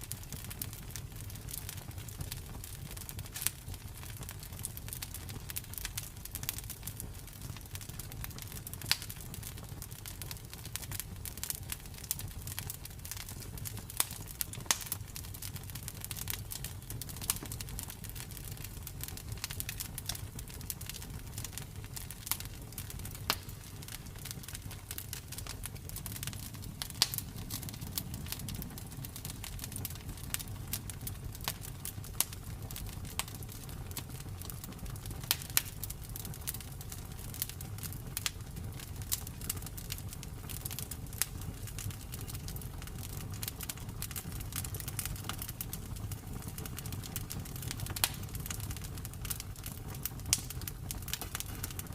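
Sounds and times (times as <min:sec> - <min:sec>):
campfire crackling and popping: 0:00.0 - 0:51.9
low rumble of burning fire: 0:00.0 - 0:51.9.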